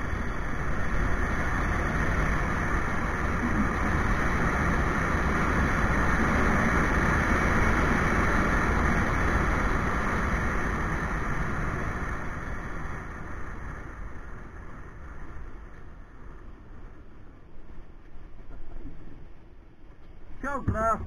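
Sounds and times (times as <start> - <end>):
motorcycle engine at speed: 0.0 - 17.4
wind noise: 0.0 - 21.0.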